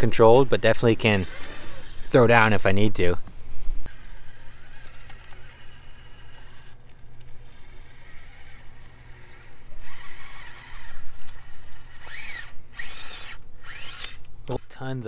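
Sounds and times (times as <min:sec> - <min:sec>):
toy car motor whining: 0:00.1 - 0:02.3, 0:03.9 - 0:14.3.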